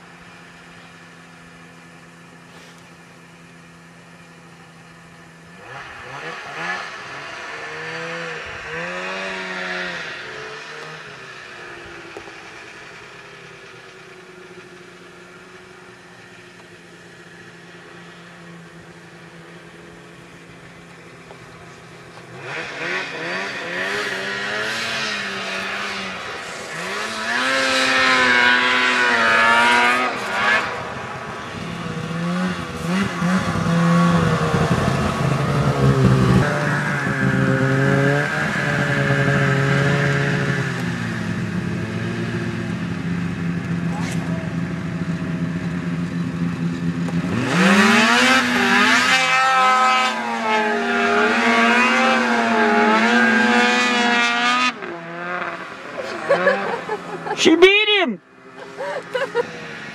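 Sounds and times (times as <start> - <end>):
snowmobile engine revving: 4.2 - 16.4, 17.1 - 59.9.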